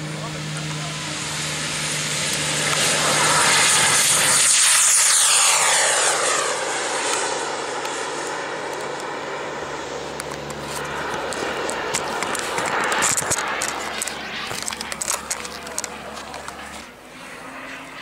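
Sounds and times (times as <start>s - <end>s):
model jet whine: 0.0s - 18.0s.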